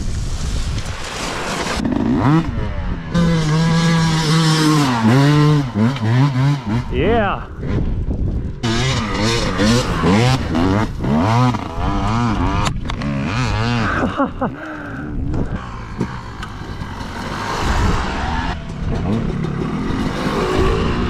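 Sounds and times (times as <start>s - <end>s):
dirt bike engine revving: 1.6s - 21.0s.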